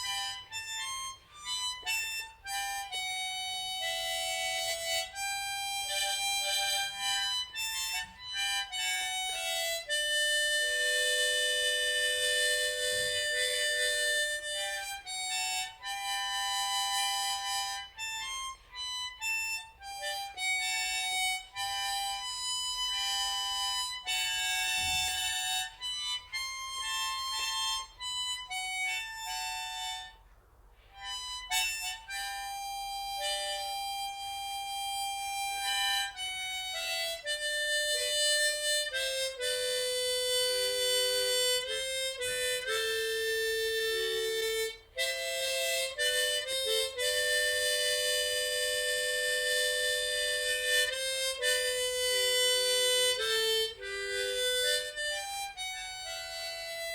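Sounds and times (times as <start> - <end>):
harmonica slow melody: 0.0 - 56.9.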